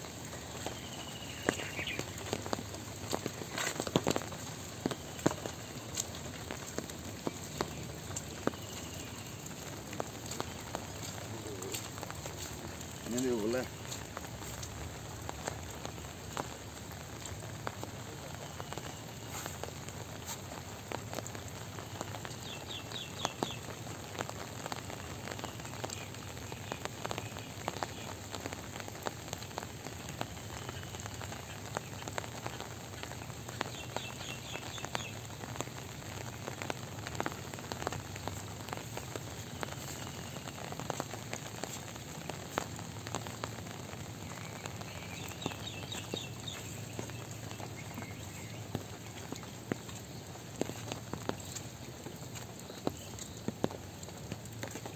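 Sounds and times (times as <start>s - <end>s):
light rain pattering: 0.0s - 54.9s.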